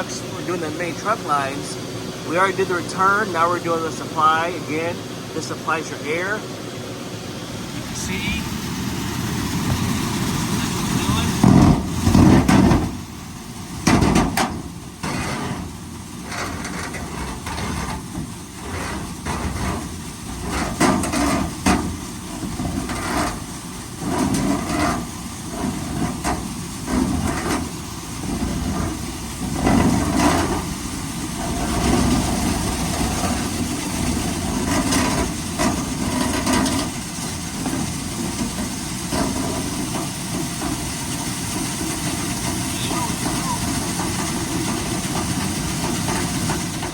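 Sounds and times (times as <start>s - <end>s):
vacuum running with low rumble: 0.0s - 46.9s.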